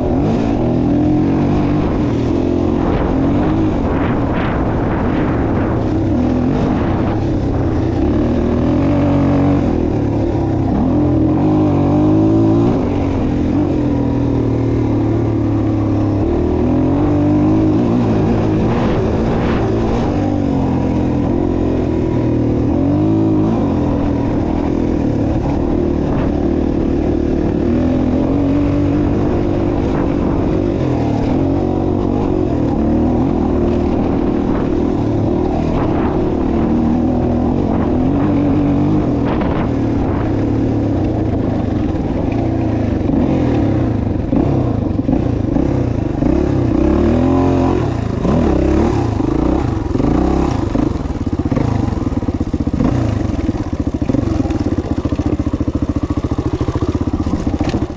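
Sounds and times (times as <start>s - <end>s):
engine revving: 0.0s - 57.9s.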